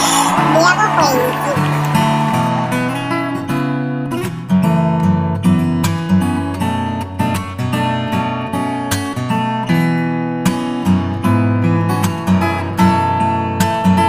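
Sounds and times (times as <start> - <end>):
strummed acoustic guitar: 0.0 - 14.0.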